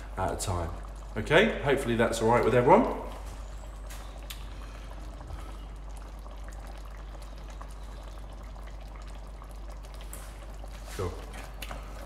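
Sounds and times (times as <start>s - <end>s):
low electrical hum: 0.0s - 12.0s
sauce bubbling in a pan: 0.0s - 12.0s.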